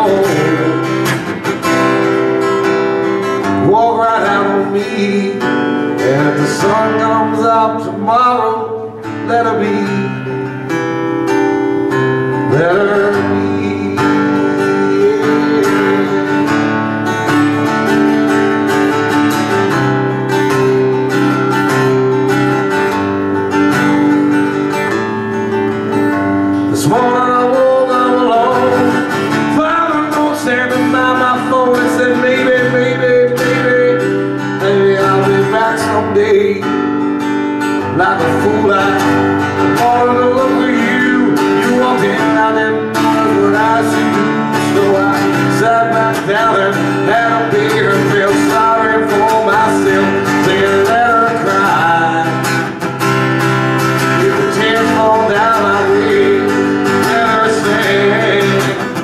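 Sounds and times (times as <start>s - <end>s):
man singing into a microphone: 0.0s - 18.6s, 26.5s - 59.0s
strummed acoustic guitar: 0.0s - 59.0s.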